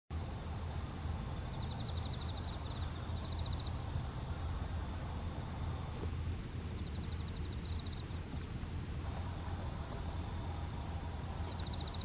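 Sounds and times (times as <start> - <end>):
low outdoor rumble: 0.1 - 12.0.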